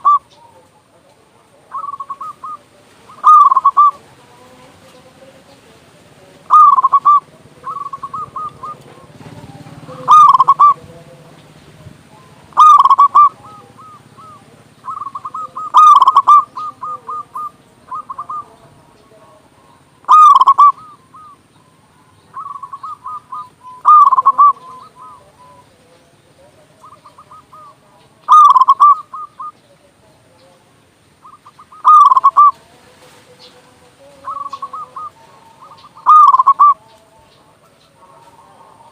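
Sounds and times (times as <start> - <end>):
dove cooing: 0.0 - 11.4, 12.1 - 38.9.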